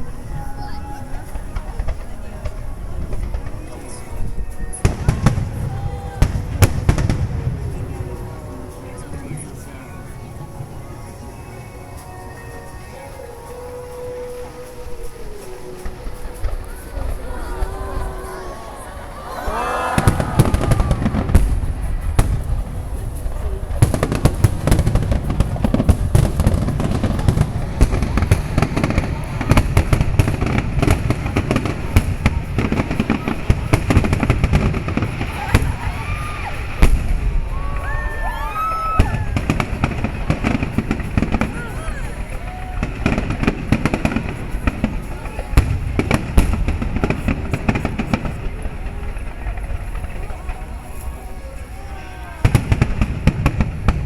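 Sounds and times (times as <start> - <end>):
fireworks cracks and booms: 0.0 - 13.1, 13.9 - 54.0.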